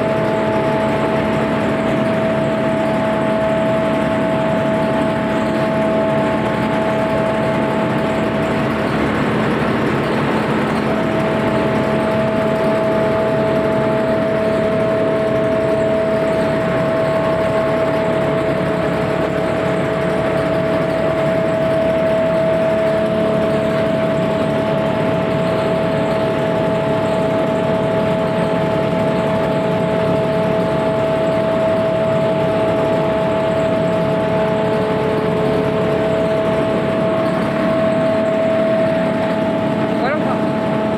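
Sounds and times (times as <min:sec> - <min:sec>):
wood grinding machine running: 0:00.0 - 0:40.9.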